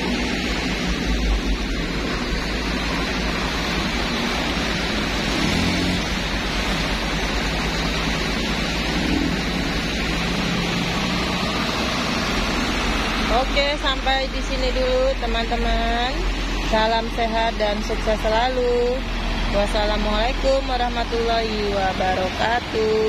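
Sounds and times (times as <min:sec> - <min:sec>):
floodwater rushing: 0:00.0 - 0:23.0
vehicle engines: 0:00.0 - 0:23.0.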